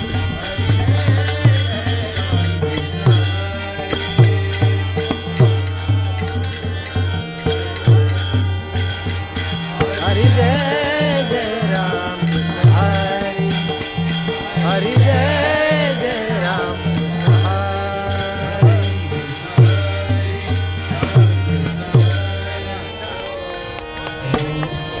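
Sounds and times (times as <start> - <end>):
person singing with pitch glides: 0.0 - 25.0.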